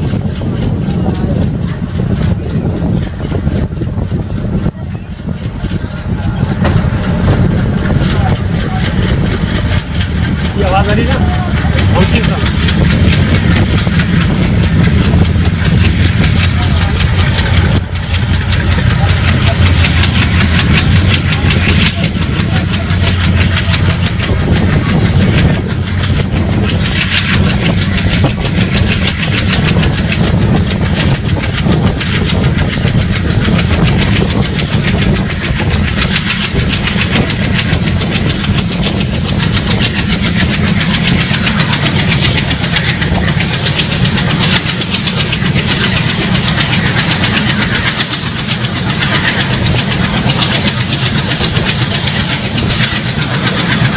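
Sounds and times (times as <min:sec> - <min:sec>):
diesel locomotive engine chugging: 0:00.0 - 0:53.9.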